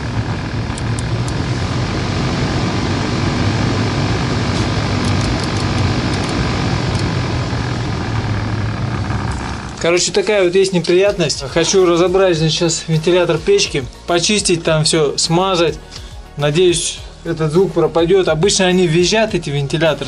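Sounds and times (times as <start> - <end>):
heater blower fan droning: 0.0 - 20.0.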